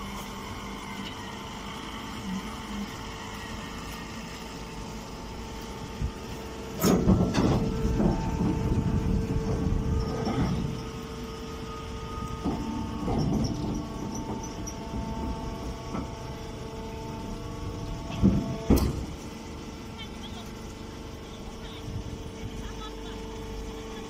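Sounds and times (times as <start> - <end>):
baler machine humming: 0.0 - 24.0.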